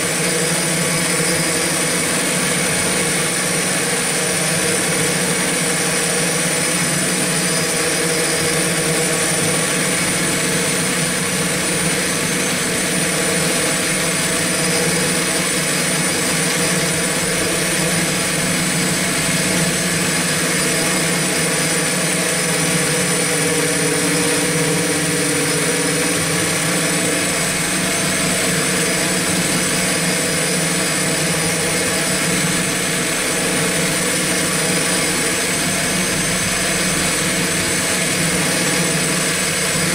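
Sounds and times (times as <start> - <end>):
multirotor drone motors whining: 0.0 - 39.9.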